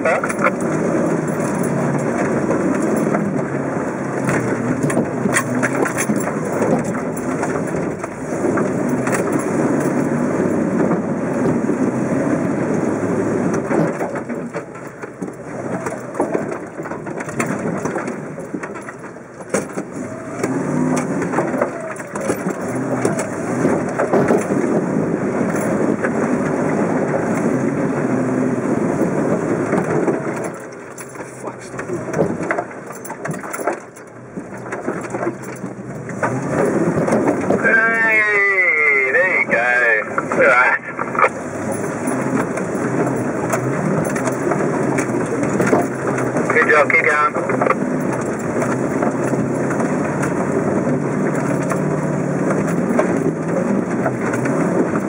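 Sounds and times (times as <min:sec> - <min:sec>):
engine running under load: 0:00.0 - 0:55.0.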